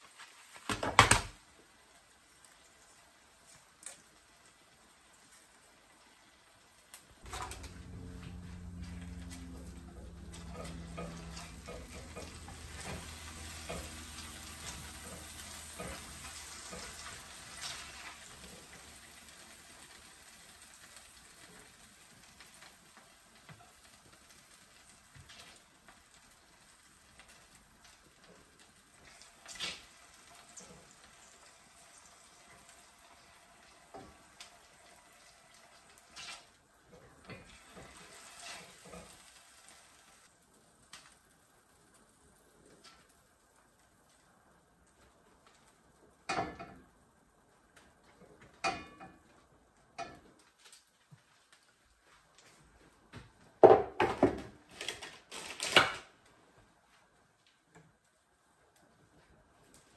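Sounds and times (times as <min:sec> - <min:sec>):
food sizzling in a skillet: 0:00.0 - 0:00.7, 0:01.4 - 0:52.2.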